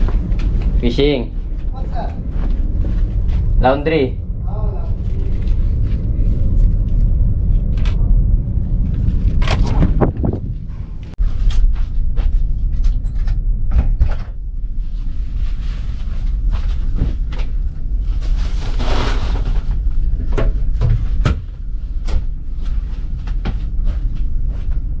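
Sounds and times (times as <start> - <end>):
laundry machines rumbling: 0.0 - 25.0.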